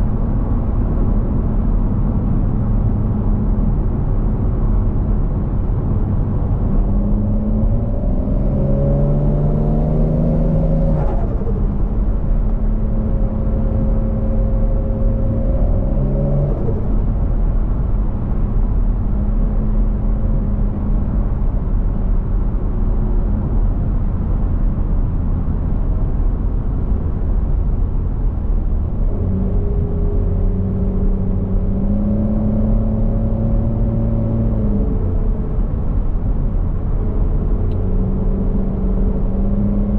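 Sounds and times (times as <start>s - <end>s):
car engine accelerating hard: 0.4s - 39.9s.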